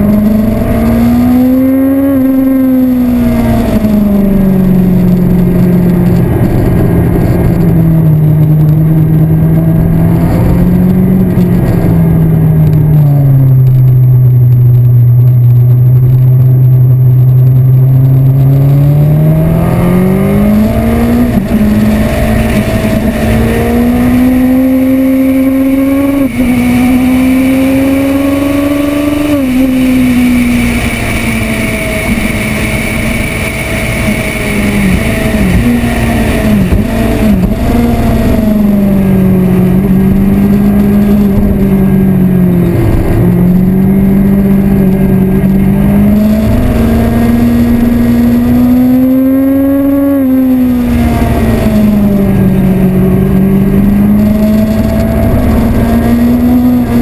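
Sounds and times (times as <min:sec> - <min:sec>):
sport bike engine: 0:00.0 - 0:57.0.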